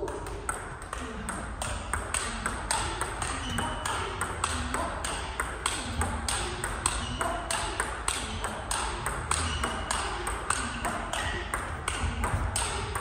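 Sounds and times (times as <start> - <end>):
table tennis ball clicking: 0.0 - 13.0.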